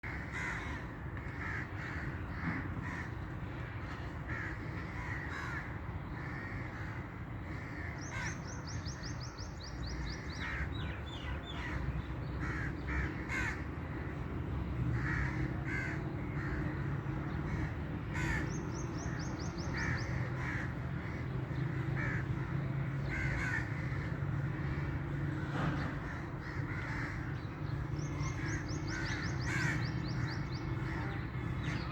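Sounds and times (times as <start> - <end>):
birds harsh calls: 0.0 - 31.9.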